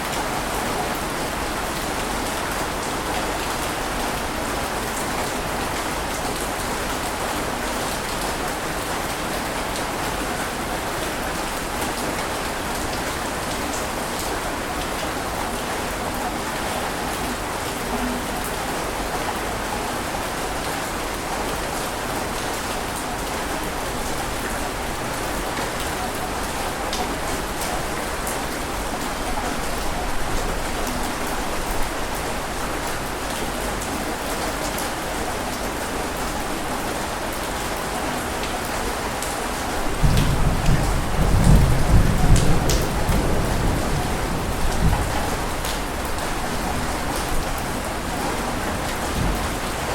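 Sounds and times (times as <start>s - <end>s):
rushing water with spray crackle: 0.0s - 49.9s.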